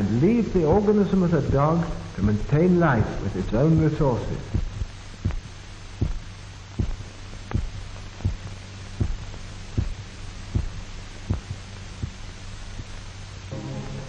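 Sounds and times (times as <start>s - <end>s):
steady low hum: 0.0s - 14.0s
heartbeat thumps: 0.1s - 13.5s.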